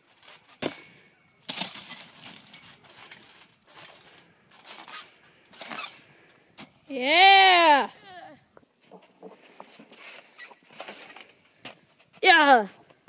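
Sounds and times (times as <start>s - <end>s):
trampoline thumps and spring creaks: 0.0s - 6.9s, 7.7s - 12.8s.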